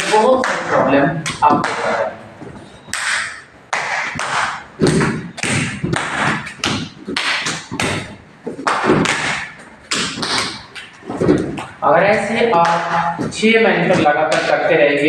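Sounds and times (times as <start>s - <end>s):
rhythmic thuds on floor: 0.0s - 14.8s.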